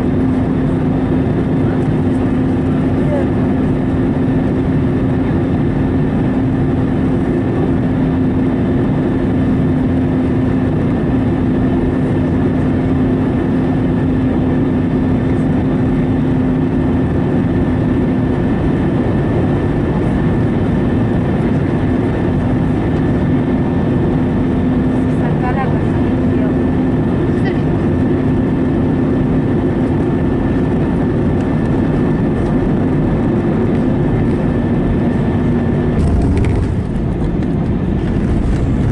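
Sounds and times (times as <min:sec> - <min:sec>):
aircraft engine and airflow rush: 0:00.0 - 0:38.9
constant low hum: 0:00.0 - 0:38.9.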